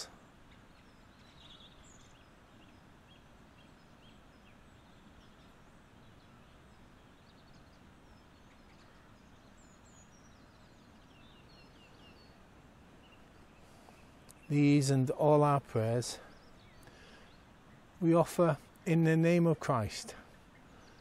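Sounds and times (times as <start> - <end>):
bird chirps: 0.0 - 21.0
faint background hiss: 0.0 - 21.0.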